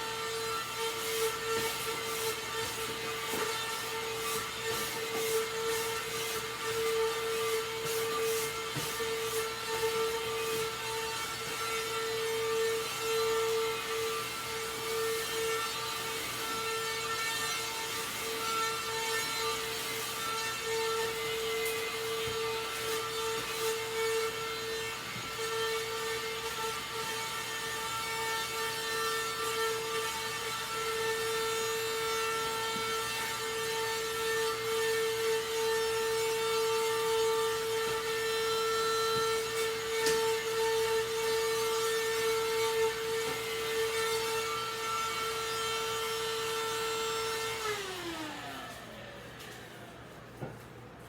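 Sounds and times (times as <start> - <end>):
vacuum cleaner motor whining: 0.0 - 50.5.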